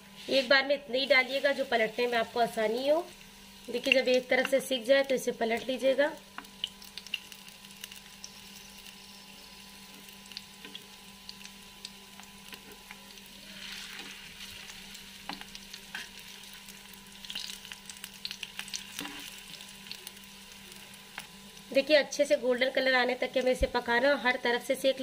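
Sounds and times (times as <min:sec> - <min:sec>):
kebabs sizzling in oil: 0:00.0 - 0:25.0.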